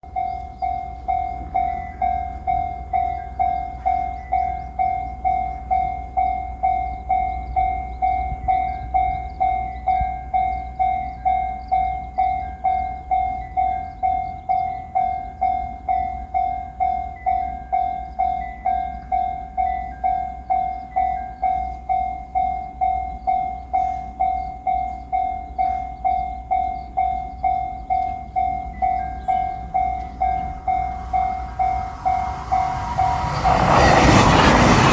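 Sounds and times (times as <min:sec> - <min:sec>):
level crossing warning bell: 0:00.0 - 0:34.9.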